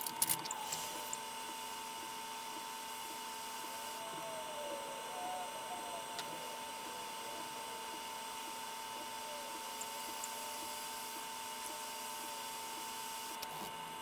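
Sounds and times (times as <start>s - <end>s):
fan whine: 0.0s - 14.0s.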